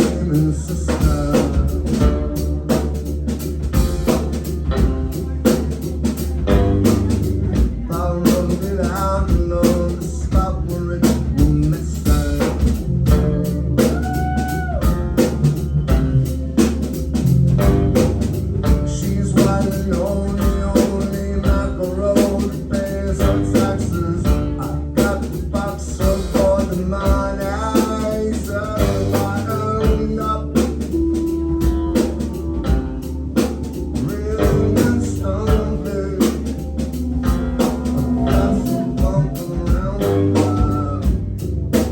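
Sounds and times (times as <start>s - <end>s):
drum kit beat: 0.0s - 41.9s
person singing: 0.0s - 41.9s.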